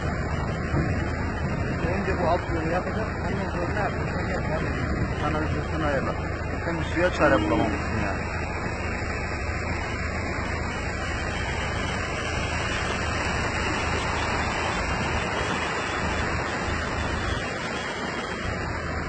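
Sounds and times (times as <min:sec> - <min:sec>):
floodwater running over street: 0:00.0 - 0:19.0
heavy rain: 0:00.0 - 0:19.0.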